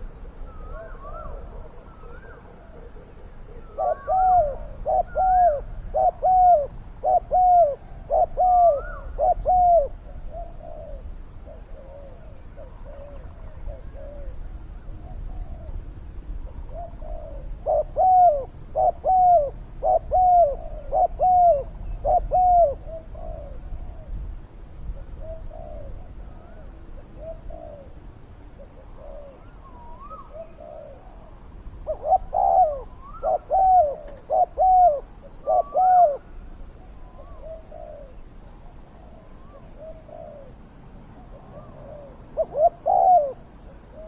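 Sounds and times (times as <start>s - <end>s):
doves cooing: 0.0s - 15.8s, 16.4s - 24.2s, 25.0s - 44.0s.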